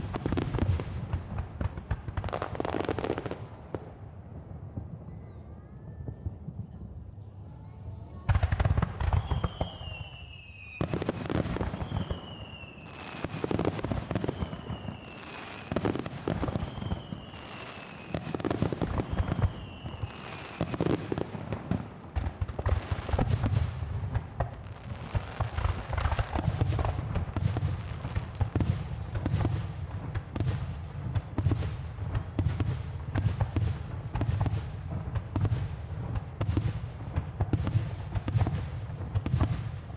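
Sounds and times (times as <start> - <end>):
fireworks bursting with crackle: 0.0 - 5.2, 8.2 - 39.9
falling firework whistles: 0.0 - 6.8, 7.4 - 39.9.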